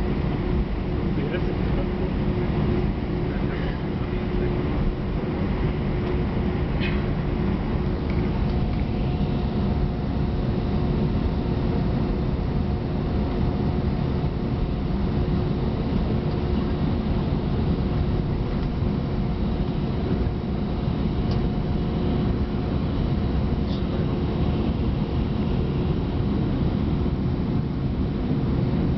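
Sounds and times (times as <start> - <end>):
airplane cabin rumble: 0.0 - 28.9
cabin air system hum: 0.0 - 28.9
engines idling hum: 0.0 - 28.9.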